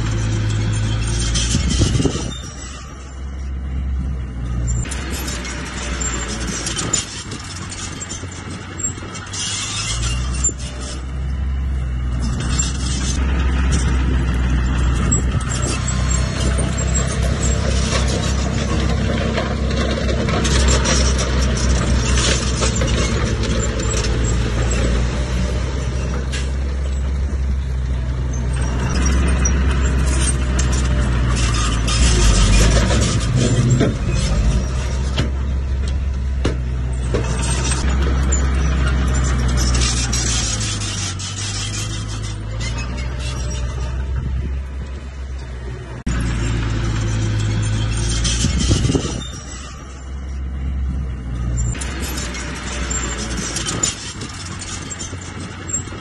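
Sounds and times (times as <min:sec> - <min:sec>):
rocks sliding and rattling: 0:00.0 - 0:03.1, 0:04.6 - 0:11.2, 0:12.1 - 0:45.2, 0:46.0 - 0:56.0
diesel engine revving: 0:00.0 - 0:56.0.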